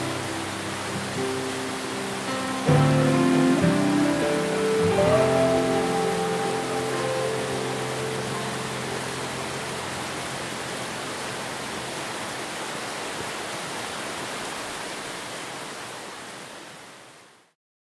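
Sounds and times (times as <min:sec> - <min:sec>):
stream water rushing over rocks: 0:00.0 - 0:17.6.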